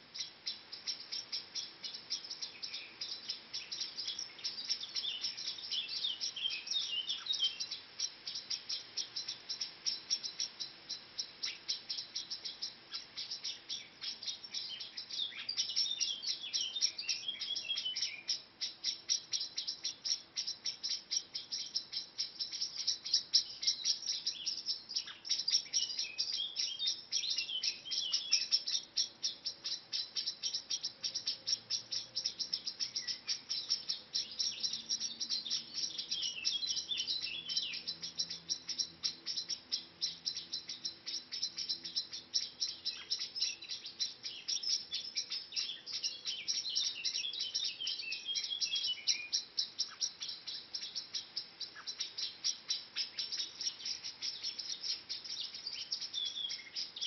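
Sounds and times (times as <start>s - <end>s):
birds warbling: 0.0s - 57.0s
rapid bird chirping: 0.0s - 57.0s.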